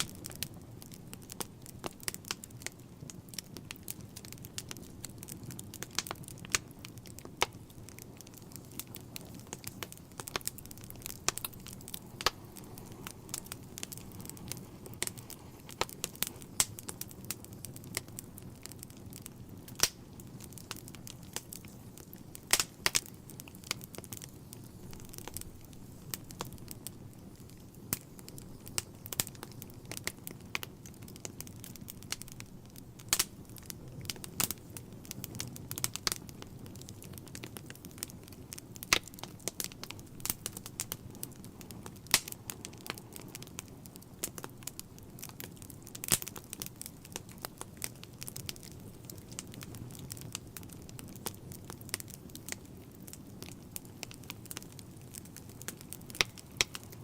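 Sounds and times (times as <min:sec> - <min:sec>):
logs crackling and popping: 0:00.0 - 0:57.0
rush of flames: 0:00.0 - 0:57.0.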